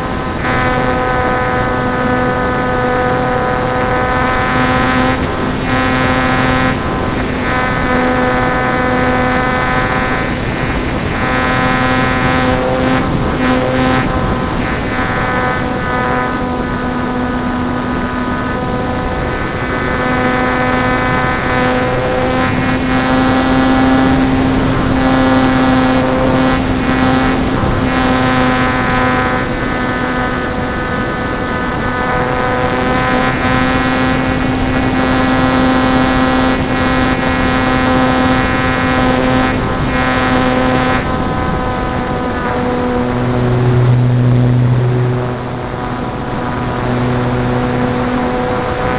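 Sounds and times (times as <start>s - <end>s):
model plane motor whine: 0.0s - 48.9s
rush of noise: 0.0s - 48.9s.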